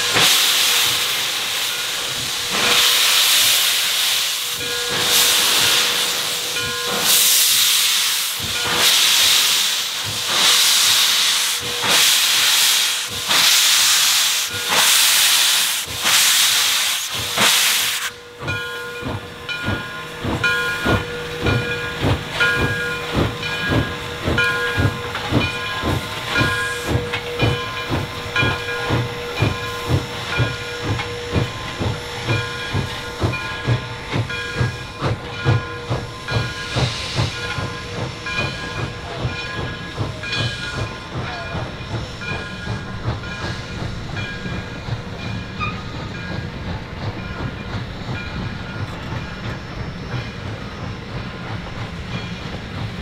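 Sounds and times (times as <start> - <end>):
steam locomotive chuffing: 0.0 - 53.0.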